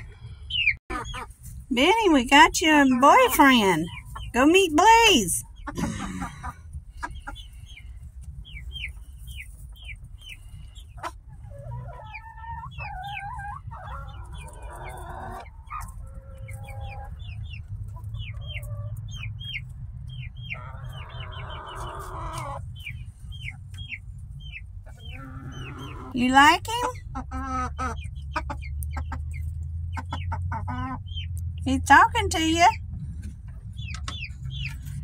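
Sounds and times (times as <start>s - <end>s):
chickens chirping: 0.0s - 35.0s
chickens clucking: 0.0s - 35.0s.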